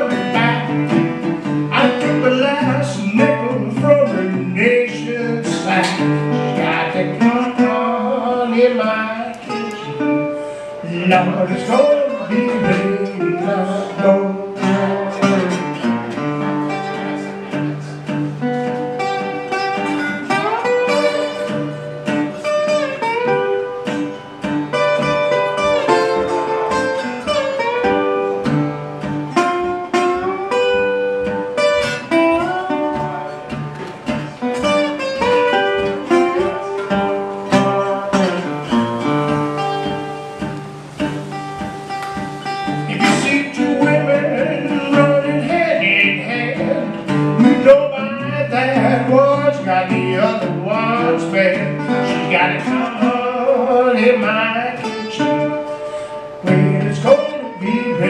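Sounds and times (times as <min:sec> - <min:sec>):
resonator guitar slide blues: 0:00.0 - 0:58.0.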